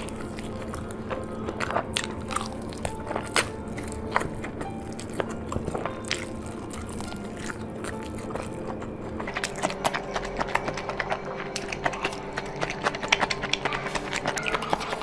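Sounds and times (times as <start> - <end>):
person chewing and biting: 0.0 - 15.0.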